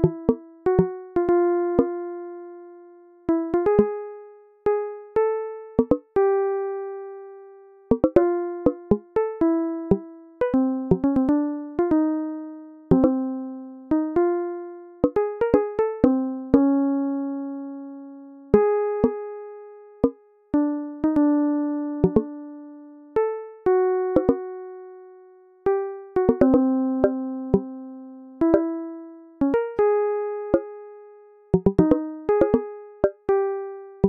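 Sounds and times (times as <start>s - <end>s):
slow electric piano melody: 0.0s - 2.6s, 3.3s - 7.0s, 7.9s - 19.4s, 20.0s - 25.0s, 25.7s - 34.0s.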